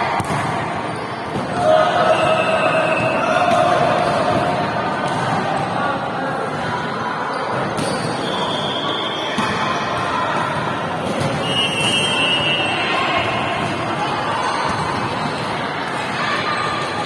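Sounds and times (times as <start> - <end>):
volleyball impacts ringing in hall: 0.0 - 17.0.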